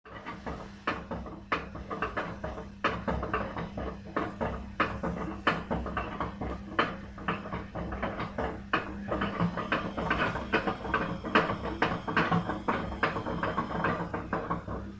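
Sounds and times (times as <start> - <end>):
washing machine drum knocking: 0.1 - 14.9
motor hum: 1.7 - 14.9.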